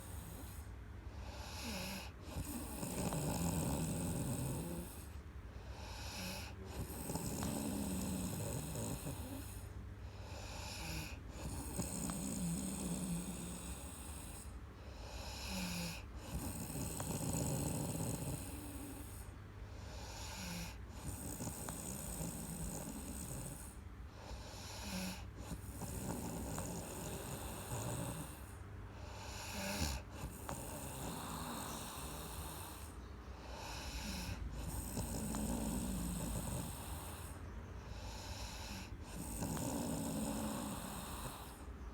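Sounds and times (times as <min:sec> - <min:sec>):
person snoring: 0:01.2 - 0:05.1, 0:05.7 - 0:09.6, 0:10.2 - 0:41.7.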